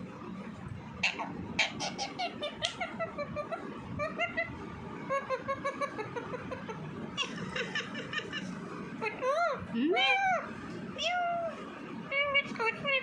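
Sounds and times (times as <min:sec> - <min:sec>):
parrot chattering: 0:01.0 - 0:11.4.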